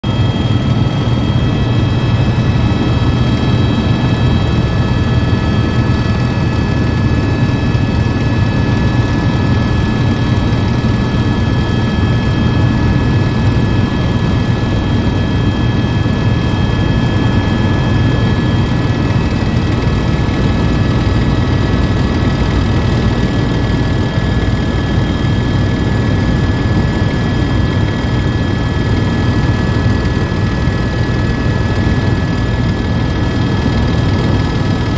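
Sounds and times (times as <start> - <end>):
helicopter rotor and turbine drone: 0.0 - 34.9.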